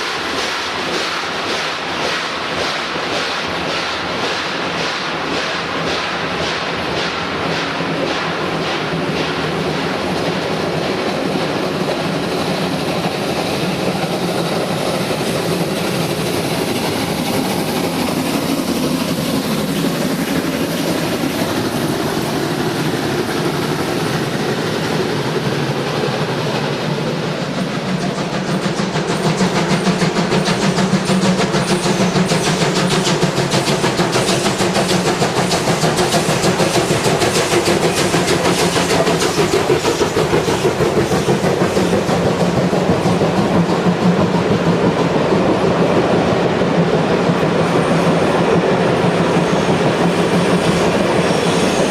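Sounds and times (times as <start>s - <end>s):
train rumbling and clattering: 0.0s - 51.9s.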